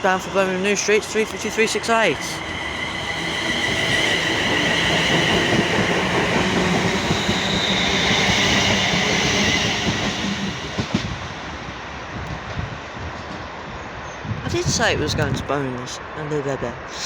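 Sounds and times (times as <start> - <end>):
electric train high whine: 0.0 - 14.2
train wheels rumbling: 0.0 - 15.4.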